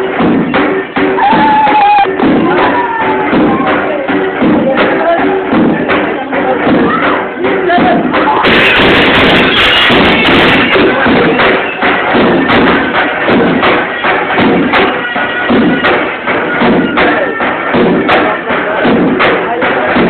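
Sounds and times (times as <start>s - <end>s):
loud music with drum beat: 0.0s - 20.0s.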